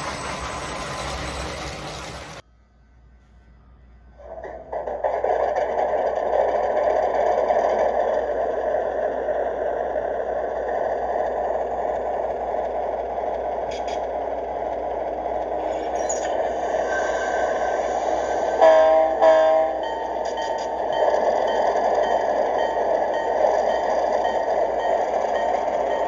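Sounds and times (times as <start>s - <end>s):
model train motor whirring: 4.4s - 26.0s.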